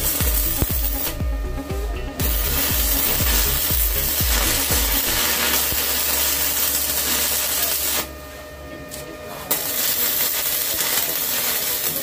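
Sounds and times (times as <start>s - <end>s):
welding arc crackling: 0.0s - 8.2s, 8.9s - 12.0s.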